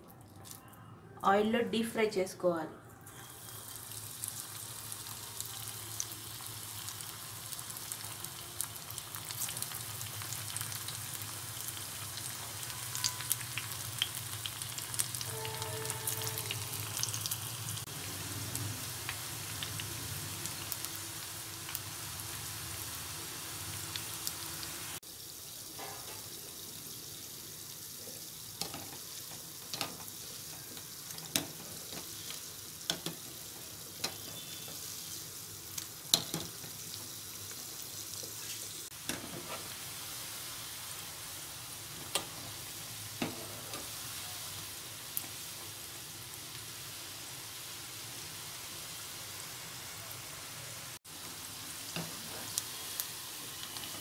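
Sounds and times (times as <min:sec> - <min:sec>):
food deep-frying in oil: 0:03.0 - 0:54.0.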